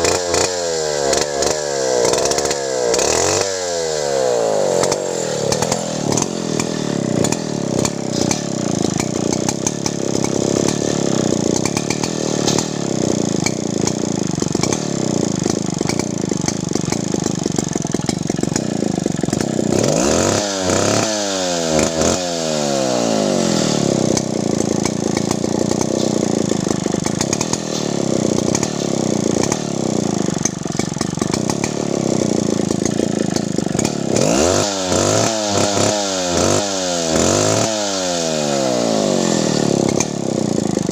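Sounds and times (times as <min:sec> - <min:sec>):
chainsaw engine running: 0:00.0 - 0:40.9.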